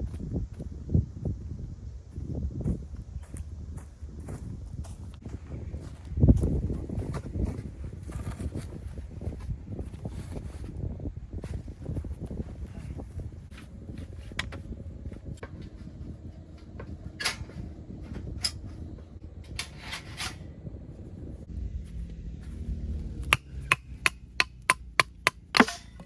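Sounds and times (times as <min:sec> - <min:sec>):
wind rumble on microphone: 0:00.0 - 0:24.7.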